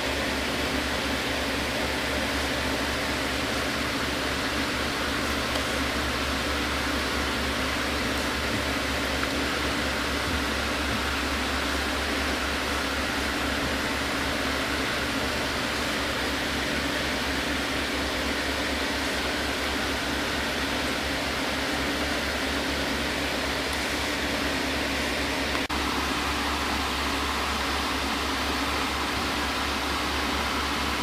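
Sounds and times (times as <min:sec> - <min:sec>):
aquarium filter humming: 0:00.0 - 0:31.0.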